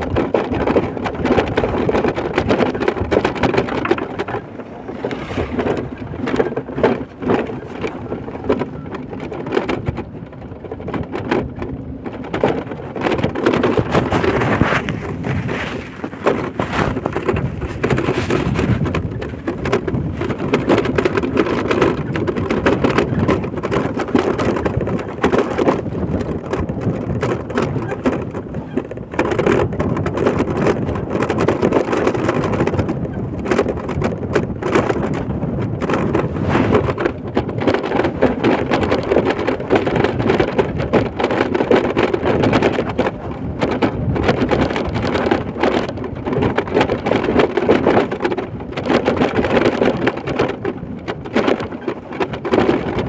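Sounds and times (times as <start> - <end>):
road and wind noise: 0.0 - 53.0.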